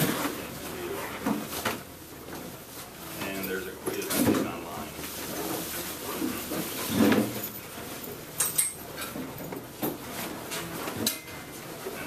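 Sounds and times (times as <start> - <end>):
room noise: 0.0 - 12.0.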